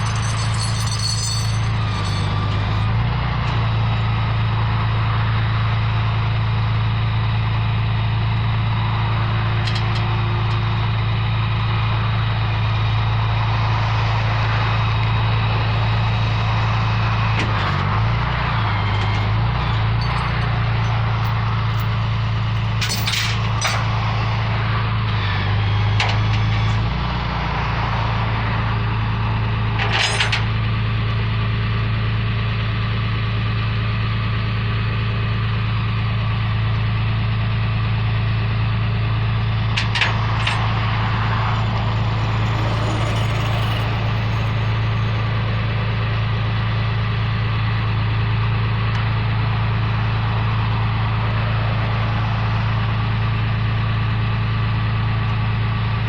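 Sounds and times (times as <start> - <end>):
tow truck engine idling: 0.0 - 56.0.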